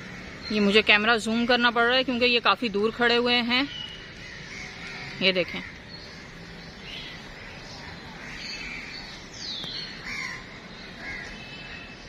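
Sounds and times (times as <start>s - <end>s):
birds calling: 0.0s - 12.0s
outdoor background hum: 0.0s - 12.0s.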